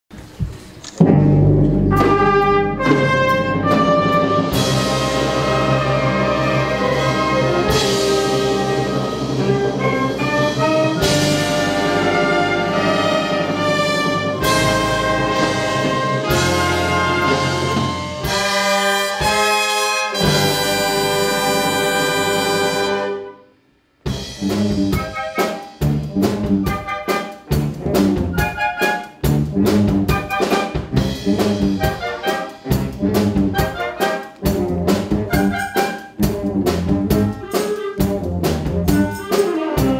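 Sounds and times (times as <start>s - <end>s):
concert wind band playing: 1.1s - 23.5s, 24.1s - 39.9s.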